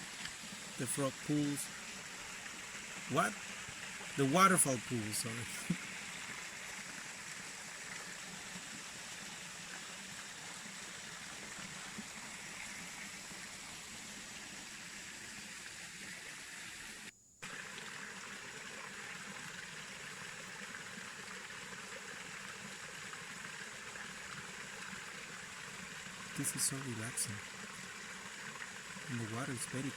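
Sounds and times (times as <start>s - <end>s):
waterfall pouring into pool: 0.0s - 29.9s.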